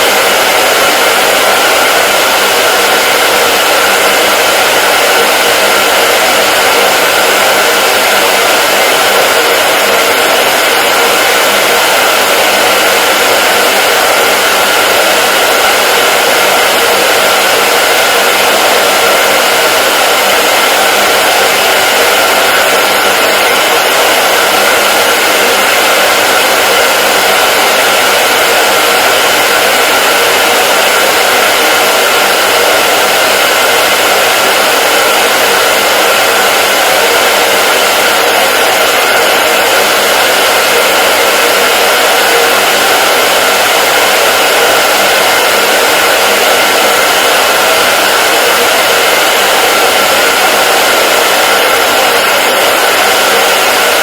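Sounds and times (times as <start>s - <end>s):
hair dryer blowing air: 0.0s - 54.0s.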